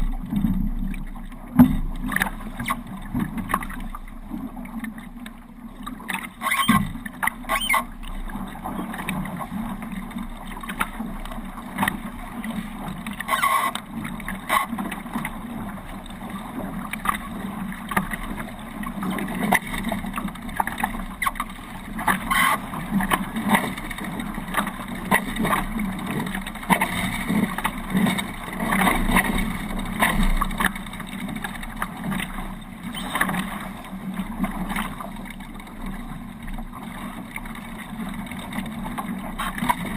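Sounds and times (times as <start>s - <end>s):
water rushing along hulls: 0.0s - 39.9s.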